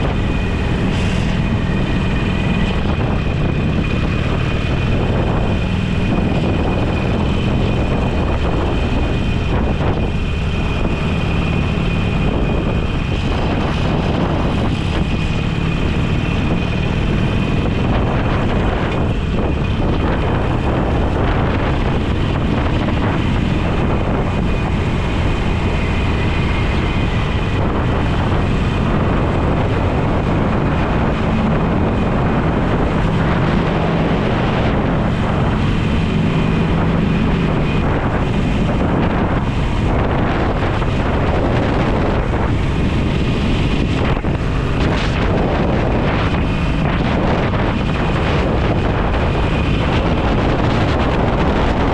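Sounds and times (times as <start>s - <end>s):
motorcycle engine cruising: 0.0s - 51.9s
wind rushing over microphone: 0.0s - 51.9s.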